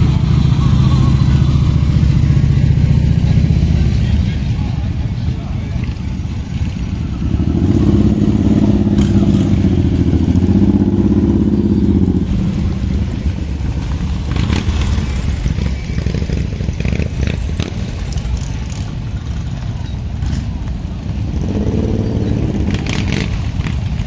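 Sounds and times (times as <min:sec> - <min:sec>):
motorcycles riding past: 0:00.0 - 0:24.0.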